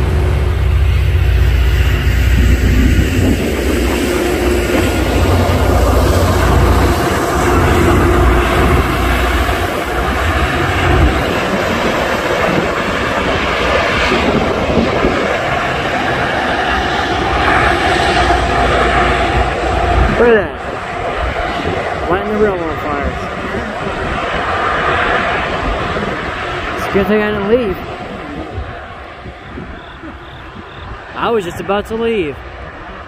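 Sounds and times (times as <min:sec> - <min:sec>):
rail grinding noise: 0:00.0 - 0:33.0
train rumble: 0:00.0 - 0:33.0.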